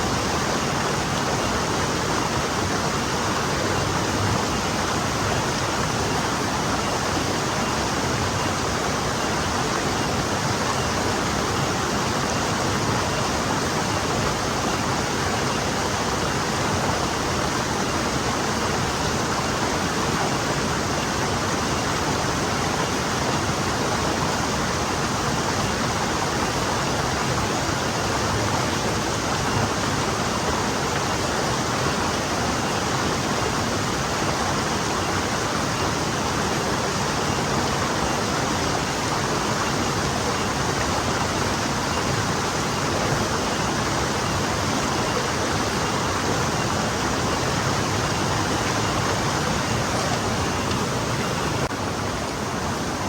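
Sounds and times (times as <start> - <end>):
stream flowing over stones: 0.0 - 53.0.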